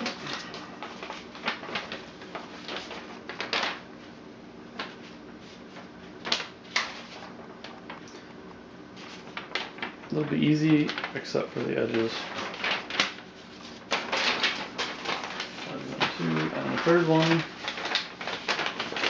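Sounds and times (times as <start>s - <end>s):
paper crackling and rustling: 0.0s - 8.3s, 8.9s - 19.0s.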